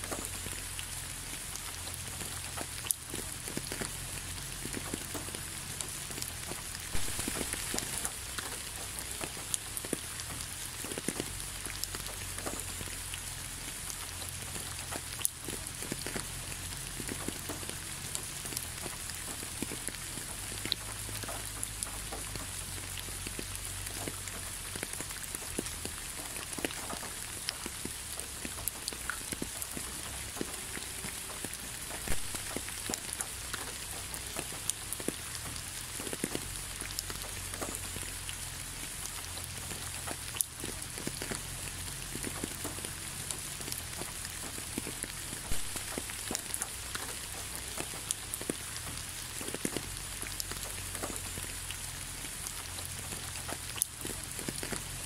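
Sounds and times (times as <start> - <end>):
rain hissing: 0.0 - 55.0
raindrop ticks: 0.0 - 55.0.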